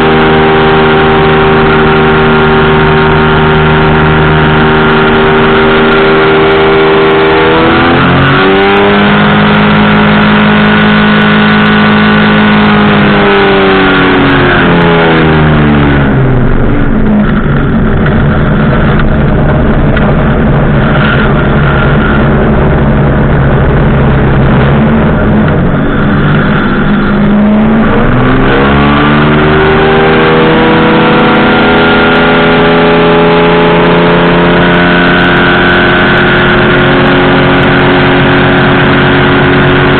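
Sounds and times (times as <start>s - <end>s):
powered parachute engine and propeller: 0.0s - 39.9s.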